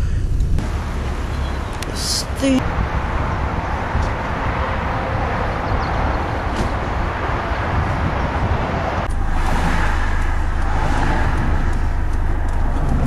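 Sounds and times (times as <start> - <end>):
car engine and road drone: 0.0 - 13.0
steady rumbling noise: 0.0 - 13.0.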